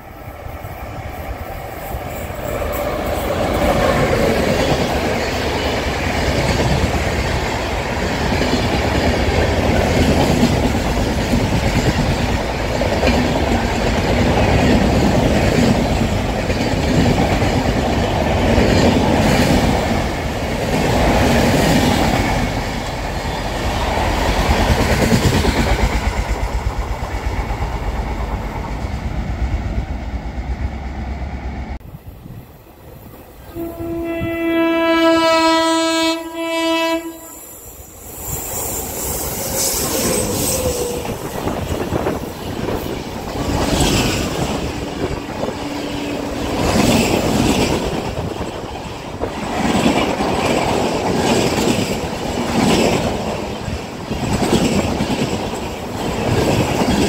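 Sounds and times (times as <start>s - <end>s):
train coaches rumbling past: 0.0s - 57.0s.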